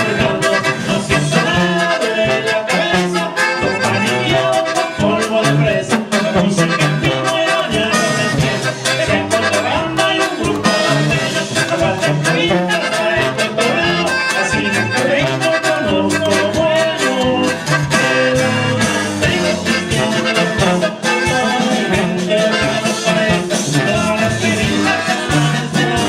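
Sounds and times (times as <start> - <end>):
band playing with accordion: 0.0 - 26.0
lead singer: 0.0 - 26.0.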